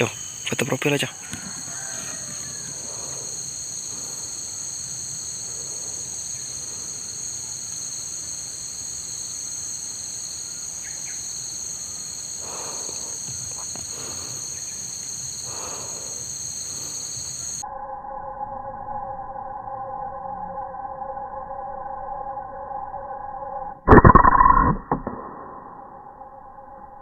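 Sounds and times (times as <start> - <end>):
shrill insect chorus: 0.0 - 23.8.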